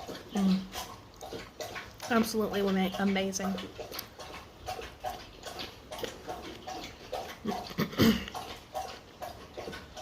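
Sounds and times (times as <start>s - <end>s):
wet crunchy chewing: 0.0s - 10.0s.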